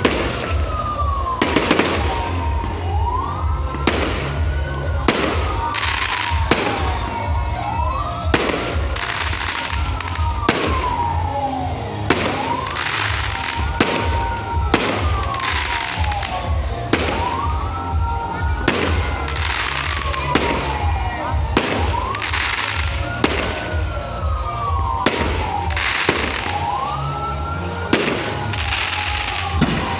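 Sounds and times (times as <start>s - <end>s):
fireworks whistling: 0.0s - 29.9s.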